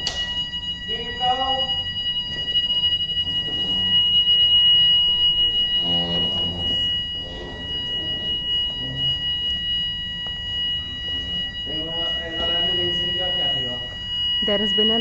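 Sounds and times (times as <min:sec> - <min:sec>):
fire alarm tone: 0:00.0 - 0:15.0.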